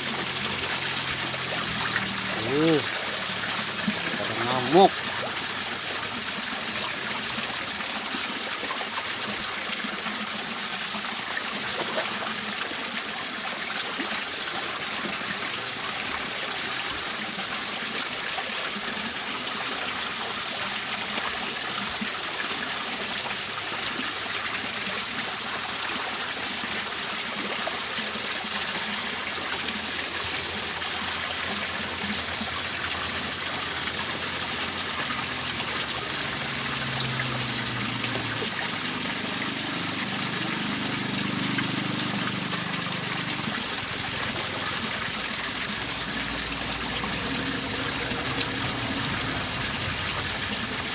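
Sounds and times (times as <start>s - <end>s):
water running into pond: 0.0s - 50.9s.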